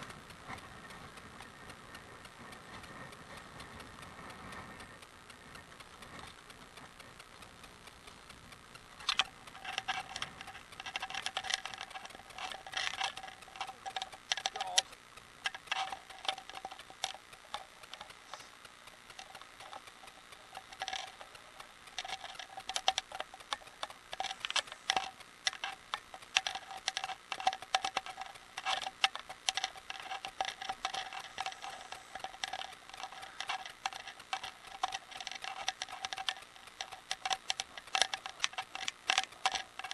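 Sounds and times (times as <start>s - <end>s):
bicycle clicking and rattling: 0.0s - 39.9s
faint ringing tone: 0.0s - 39.9s.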